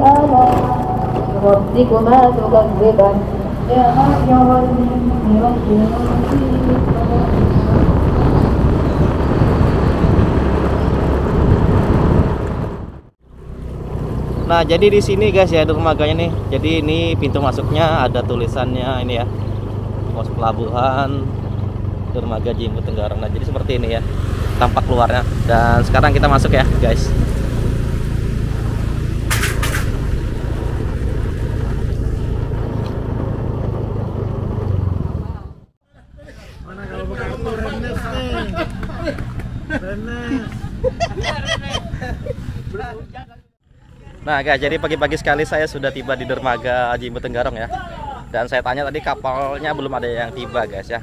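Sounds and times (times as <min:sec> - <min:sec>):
vehicle rumbling on road: 0:00.0 - 0:51.0.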